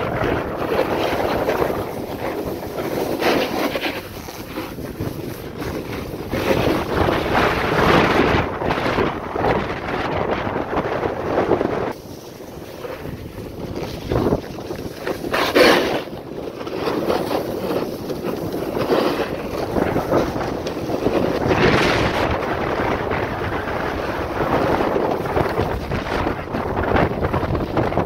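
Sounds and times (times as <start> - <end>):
sliding over snow: 0.0 - 28.0
wind rushing over microphone: 0.0 - 28.0.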